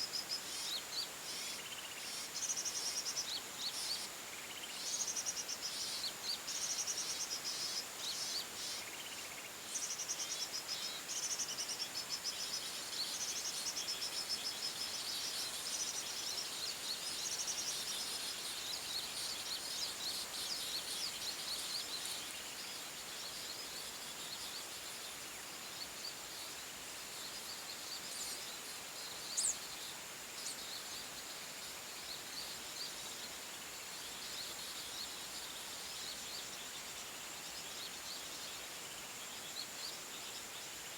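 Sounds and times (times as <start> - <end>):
forest birds chirping and trilling: 0.0 - 40.9.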